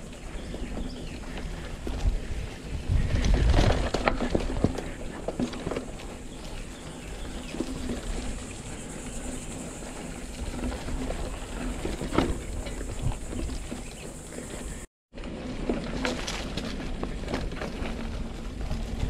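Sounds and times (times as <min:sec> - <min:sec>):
wind rumble on microphone: 0:00.0 - 0:14.8, 0:16.0 - 0:19.0
bike tyres on dirt: 0:00.0 - 0:19.0
bike knocks and rattles: 0:00.1 - 0:19.0.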